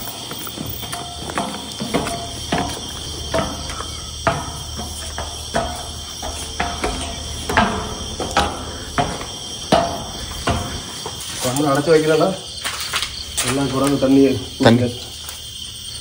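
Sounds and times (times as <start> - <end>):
crickets and insects chirring: 0.0 - 16.0.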